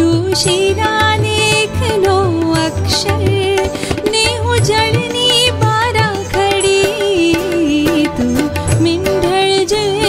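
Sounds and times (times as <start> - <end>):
instrumental accompaniment: 0.0 - 10.0
woman singing: 0.0 - 10.0.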